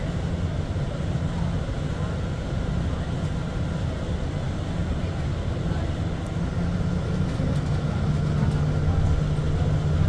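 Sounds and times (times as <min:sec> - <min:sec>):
train rumbling along guideway: 0:00.0 - 0:10.0.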